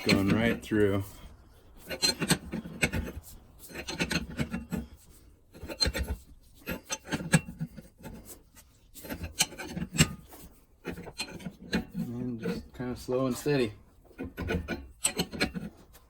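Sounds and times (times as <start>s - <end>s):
press screw cranked by hand: 0.0s - 16.0s.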